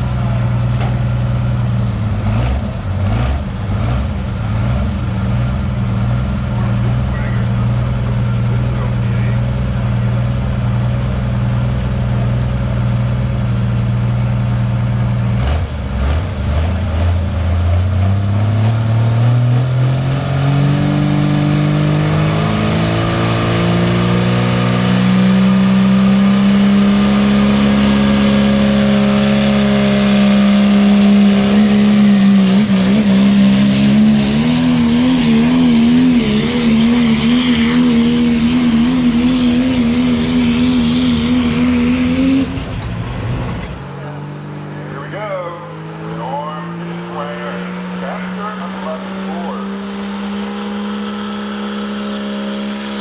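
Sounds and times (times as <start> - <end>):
diesel truck engine revving: 0.0 - 53.0.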